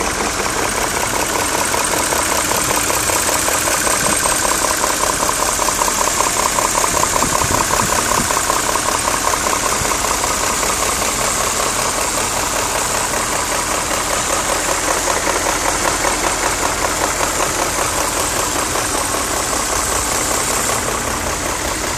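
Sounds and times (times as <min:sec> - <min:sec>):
car engine idling with ticking: 0:00.0 - 0:21.9.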